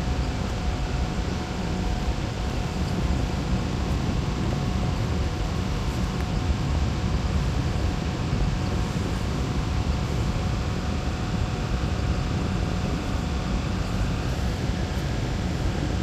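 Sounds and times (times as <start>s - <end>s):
fan running with rushing hum: 0.0s - 16.0s.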